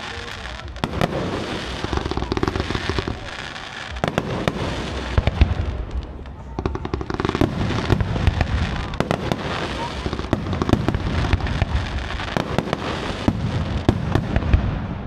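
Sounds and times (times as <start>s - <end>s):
fireworks crackling pops: 0.0s - 15.0s
fireworks low booms: 0.0s - 15.0s.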